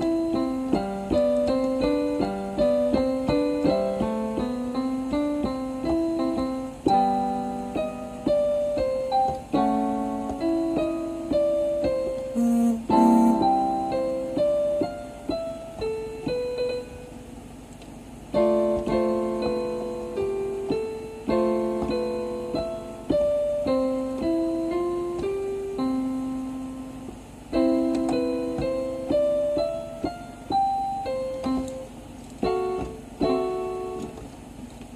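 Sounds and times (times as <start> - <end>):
electronic keyboard melody: 0.0 - 17.2, 18.3 - 34.2.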